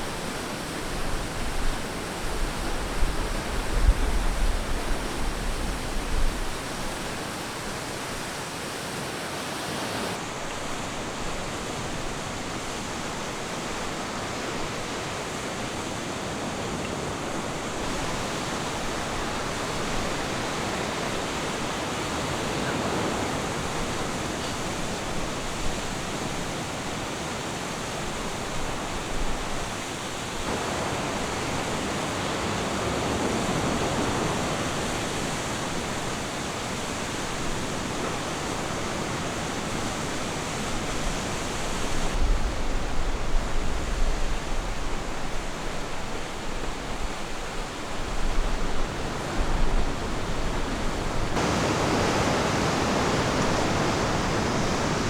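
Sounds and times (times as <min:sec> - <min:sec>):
ocean surf washing onto beach: 0:00.0 - 0:55.0.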